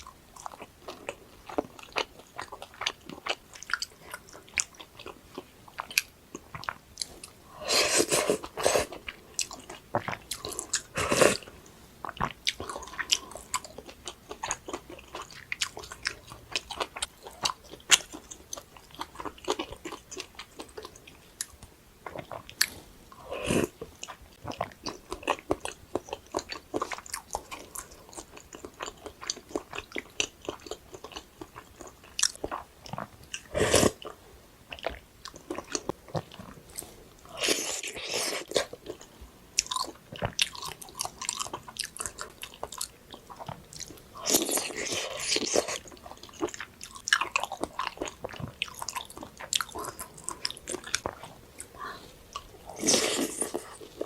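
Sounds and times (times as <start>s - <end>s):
chewing and biting food: 8.3s - 22.8s, 23.7s - 54.0s.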